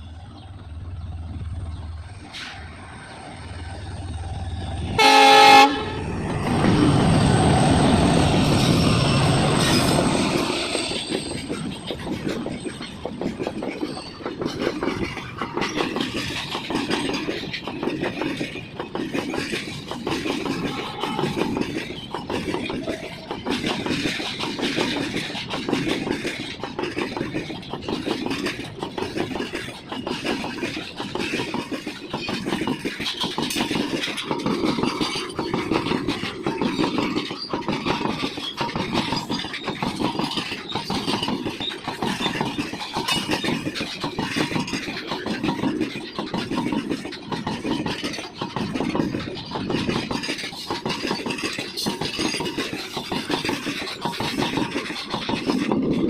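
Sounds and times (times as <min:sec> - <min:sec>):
train rolling past: 0:00.0 - 0:56.0
wheels clicking over rail joints: 0:00.0 - 0:56.0.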